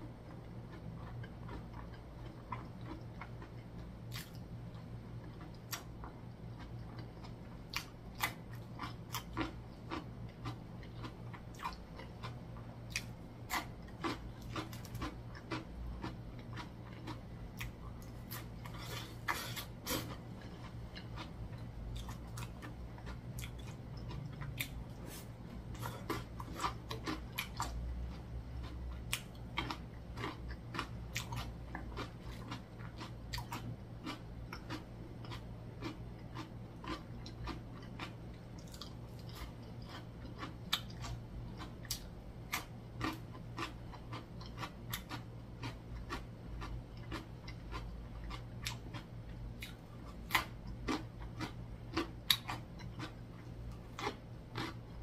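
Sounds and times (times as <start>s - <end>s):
low steady hum: 0.0s - 55.0s
person chewing crunchy food: 0.1s - 55.0s.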